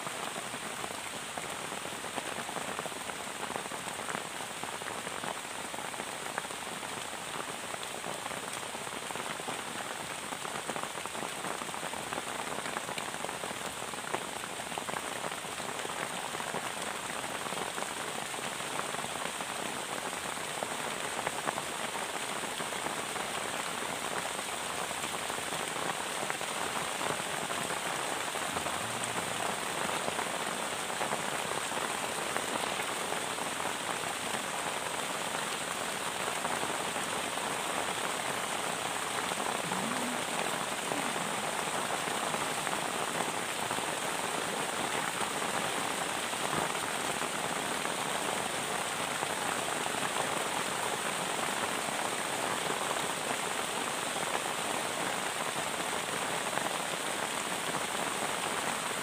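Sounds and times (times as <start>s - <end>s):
rain on plastic tarp: 0.0s - 59.0s.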